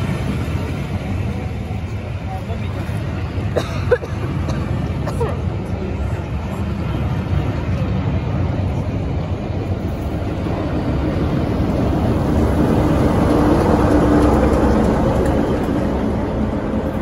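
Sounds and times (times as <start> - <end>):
diesel locomotive engine hum: 0.0 - 17.0
train wheels rumbling on rails: 0.0 - 17.0.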